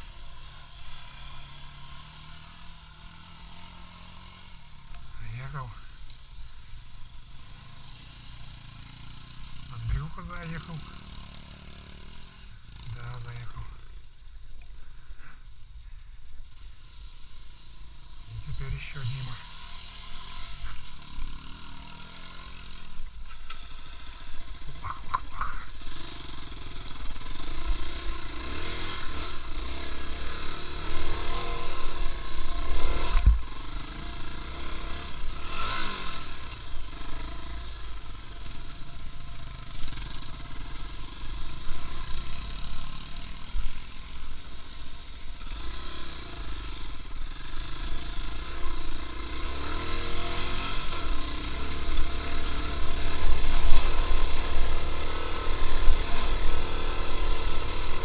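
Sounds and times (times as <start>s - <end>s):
vehicle engine revving: 0.0s - 13.9s, 16.5s - 58.0s.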